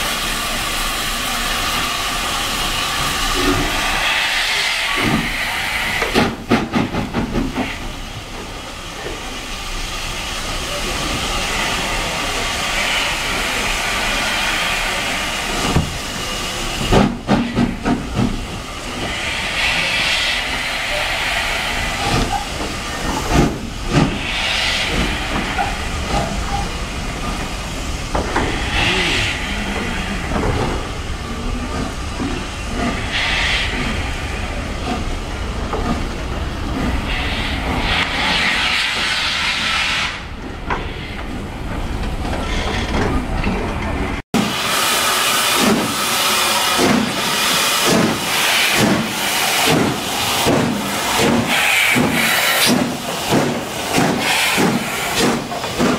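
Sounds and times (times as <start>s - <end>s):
steam hissing: 0.0s - 43.3s, 43.9s - 55.9s
train clanks and knocks: 0.0s - 55.9s.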